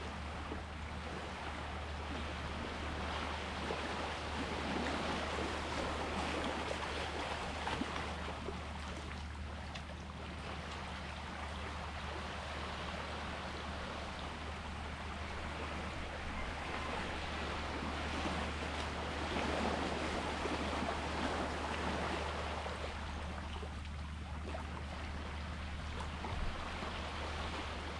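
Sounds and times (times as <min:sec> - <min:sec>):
constant low hum: 0:00.0 - 0:27.9
sea waves washing in: 0:01.1 - 0:08.8, 0:11.7 - 0:27.9.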